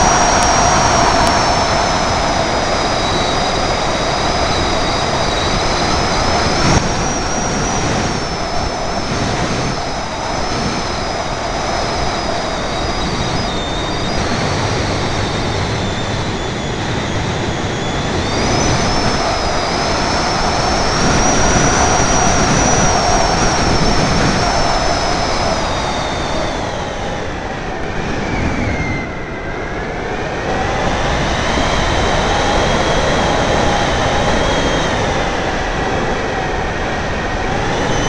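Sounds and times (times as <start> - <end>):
thin high whine: 0.0 - 38.0
wind rush of airflow: 0.0 - 38.0.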